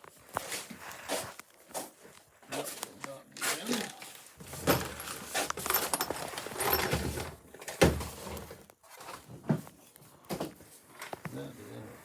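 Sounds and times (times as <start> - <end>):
rummaging through parts and tools: 0.0 - 11.3.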